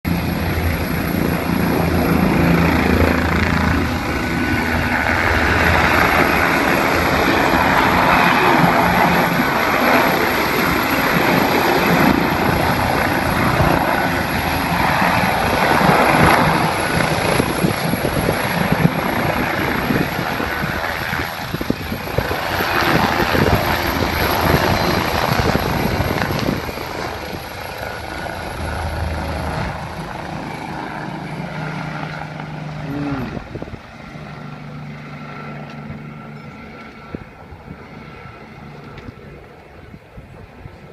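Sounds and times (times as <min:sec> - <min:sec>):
helicopter taking off: 0:00.0 - 0:40.9.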